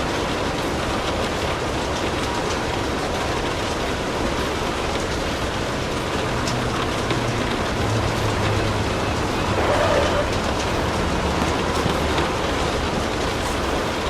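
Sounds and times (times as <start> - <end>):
steady rain patter: 0.0 - 14.0.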